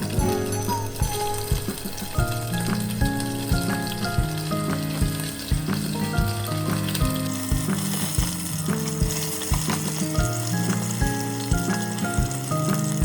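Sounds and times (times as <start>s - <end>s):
background music with beat: 0.0s - 13.0s
food sizzling: 0.0s - 13.0s.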